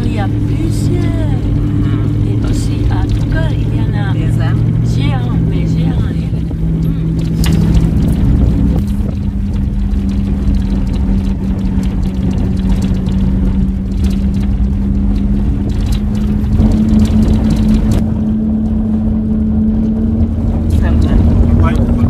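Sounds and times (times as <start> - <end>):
car engine hum: 0.0 - 22.0
car knocks and rattles: 0.0 - 22.0.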